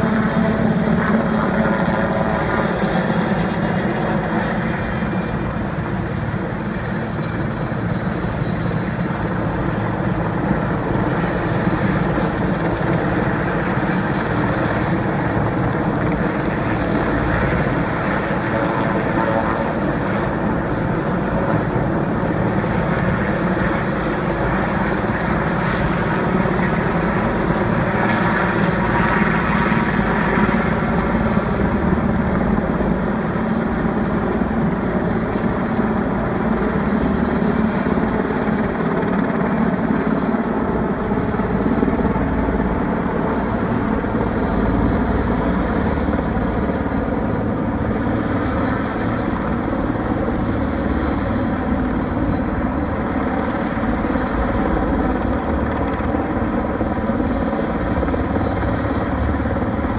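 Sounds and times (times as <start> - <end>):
helicopter flying overhead: 0.0 - 59.9.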